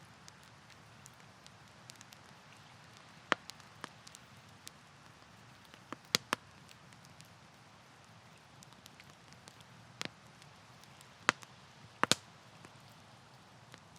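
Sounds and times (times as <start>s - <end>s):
campfire crackling and popping: 0.0s - 13.9s.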